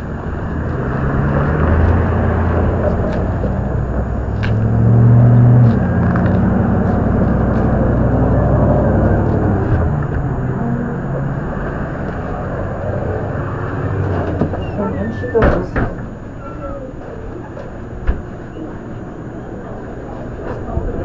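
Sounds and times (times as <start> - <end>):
low vehicle engine rumble: 0.0 - 21.0.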